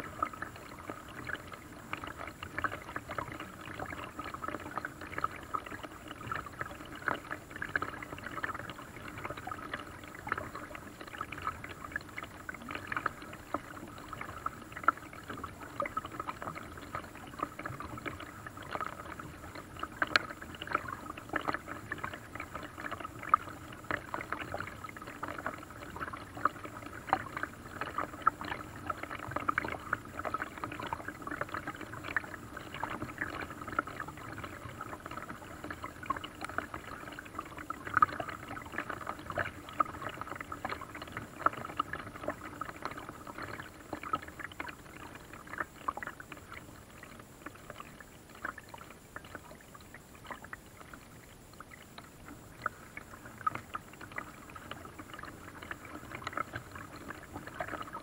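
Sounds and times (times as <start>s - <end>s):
water splashing around paddle: 0.0s - 58.0s.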